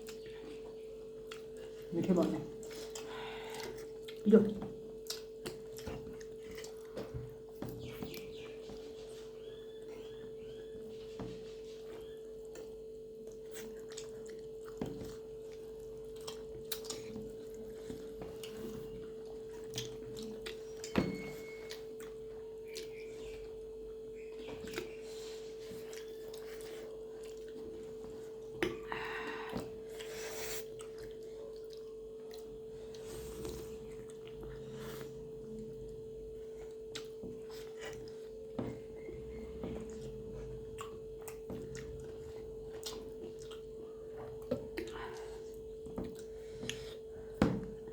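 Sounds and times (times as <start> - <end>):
steady hum: 0.0 - 47.9.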